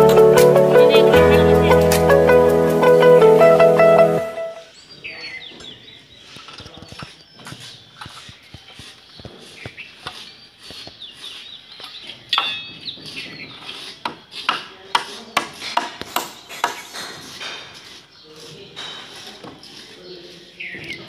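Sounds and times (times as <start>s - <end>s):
birds chirping: 0.0s - 15.5s, 16.4s - 21.0s.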